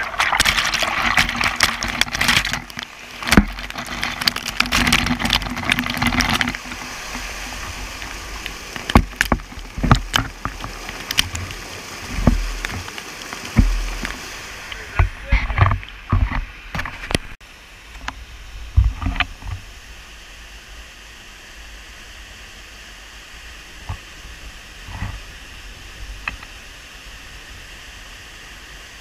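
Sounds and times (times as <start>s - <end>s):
whitewater rushing and splashing: 0.0s - 29.0s.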